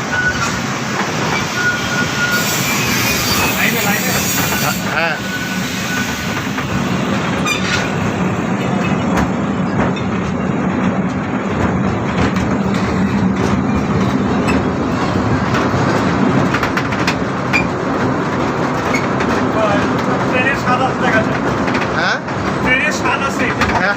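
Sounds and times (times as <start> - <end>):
ride train running on track: 0.0 - 23.9.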